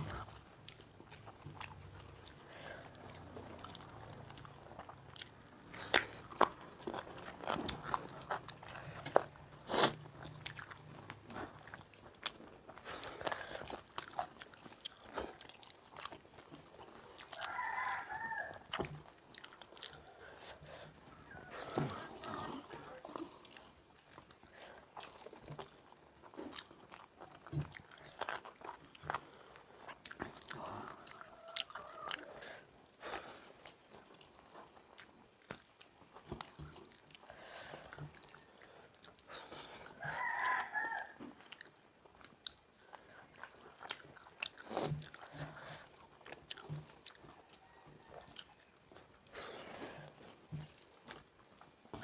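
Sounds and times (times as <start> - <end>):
chewing and lip smacking: 0.0 - 52.0
wet squishing of rice: 0.0 - 52.0.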